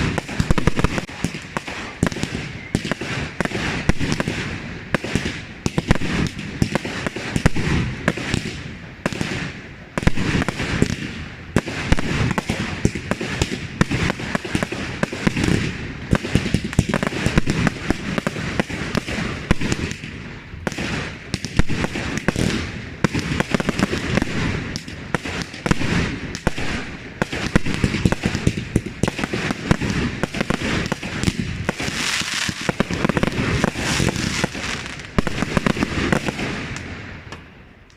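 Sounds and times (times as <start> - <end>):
fireworks bangs and crackling: 0.0 - 37.9.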